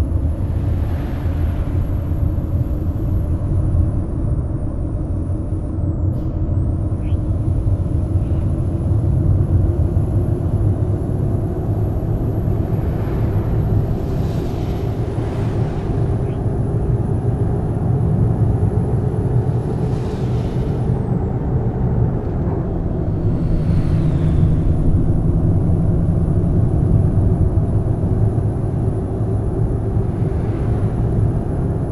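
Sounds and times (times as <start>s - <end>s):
coach engine and road rumble: 0.0s - 31.9s.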